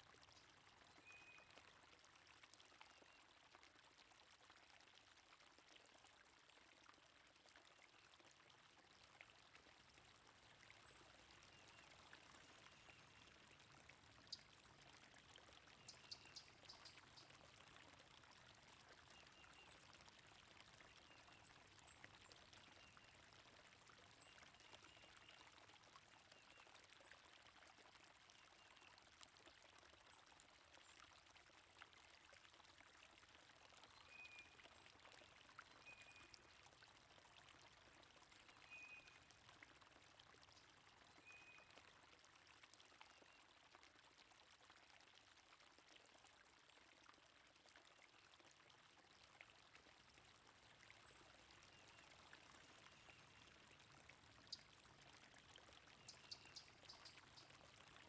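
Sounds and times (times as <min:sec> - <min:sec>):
flowing stream water: 0:00.0 - 0:58.0.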